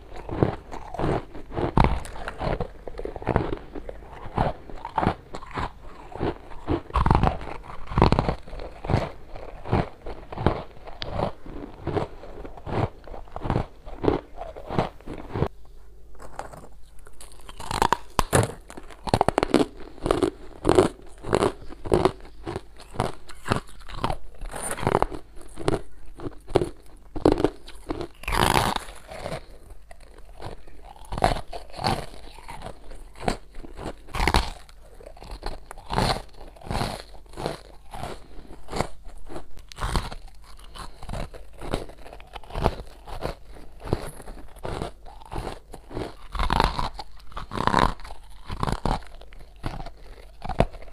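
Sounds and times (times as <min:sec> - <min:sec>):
chewing ice crunches: 0:00.0 - 0:15.5, 0:16.2 - 0:50.9.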